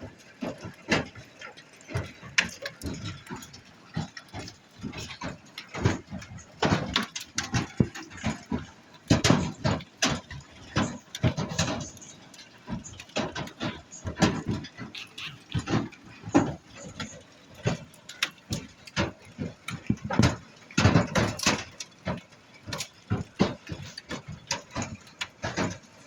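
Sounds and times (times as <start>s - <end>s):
hail clattering on a roof: 0.0s - 26.0s.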